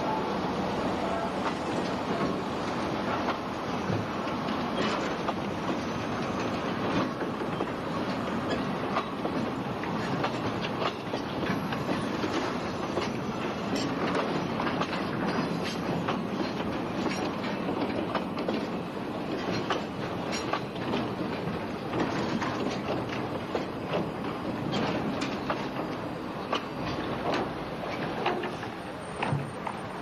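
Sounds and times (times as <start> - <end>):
freight wagons rolling on track: 0.0 - 30.0
wheels clicking on rails: 0.0 - 30.0.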